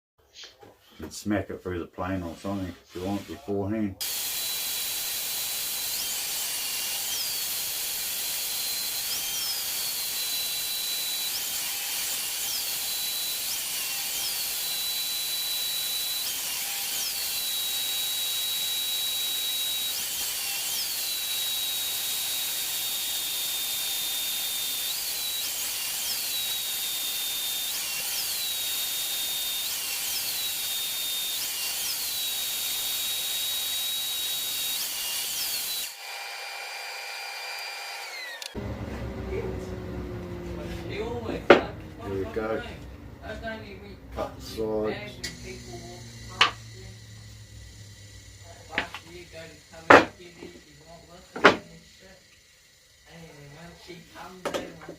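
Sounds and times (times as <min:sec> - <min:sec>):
power tool motor whining: 0:04.0 - 0:54.4.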